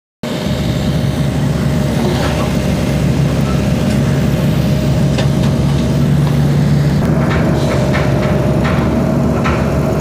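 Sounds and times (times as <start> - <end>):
diesel engine running steadily: 0.2 - 10.0.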